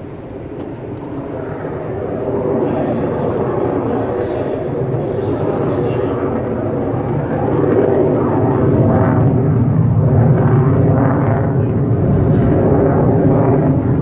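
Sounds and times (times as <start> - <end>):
aircraft engine rumble: 0.0 - 14.0.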